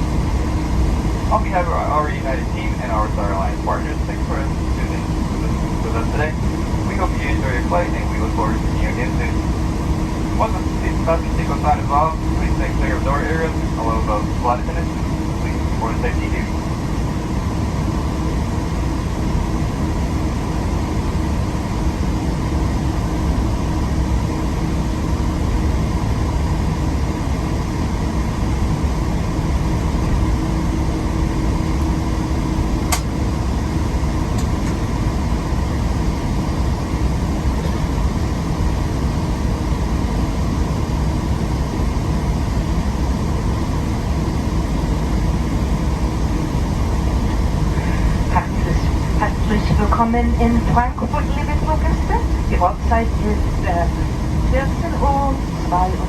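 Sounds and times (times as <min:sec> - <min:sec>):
aircraft cabin rumble: 0:00.0 - 0:56.0
faint steady hum: 0:00.0 - 0:56.0.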